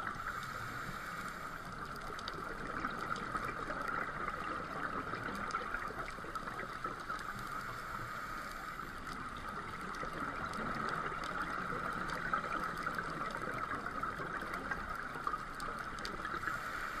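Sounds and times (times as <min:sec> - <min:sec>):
faint clicks: 0:00.0 - 0:17.0
underwater hiss: 0:00.0 - 0:17.0.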